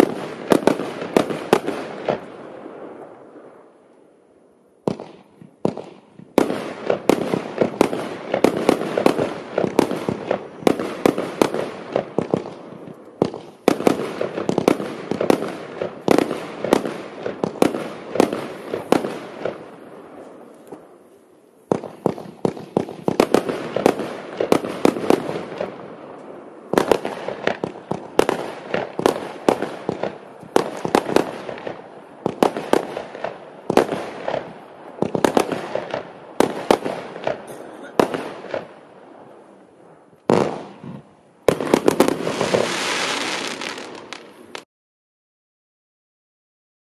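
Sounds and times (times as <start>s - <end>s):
firework bangs: 0.0s - 3.8s, 4.8s - 21.0s, 21.6s - 44.6s.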